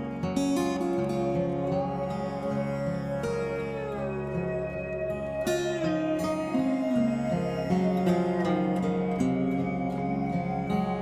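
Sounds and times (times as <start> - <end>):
acoustic guitar with sliding notes: 0.0 - 11.0.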